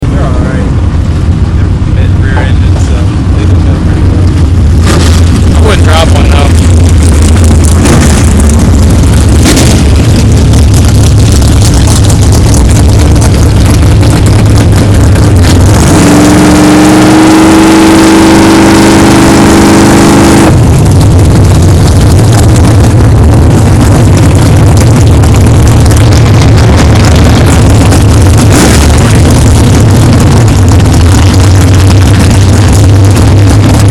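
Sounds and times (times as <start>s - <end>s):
vehicle engine accelerating: 0.0s - 33.9s.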